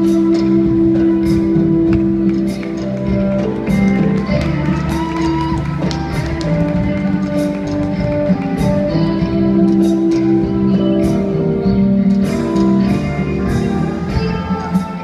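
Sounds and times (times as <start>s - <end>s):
latin ballroom dance music: 0.0s - 15.0s.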